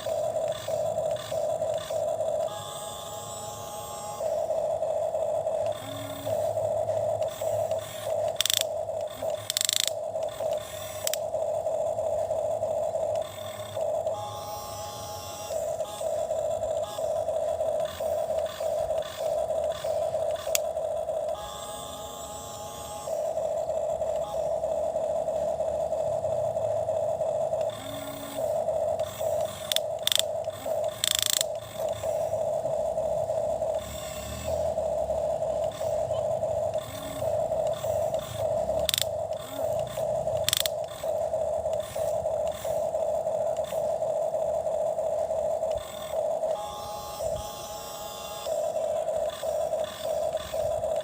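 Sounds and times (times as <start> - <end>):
toy motor and gearbox whirring: 0.0 - 51.0.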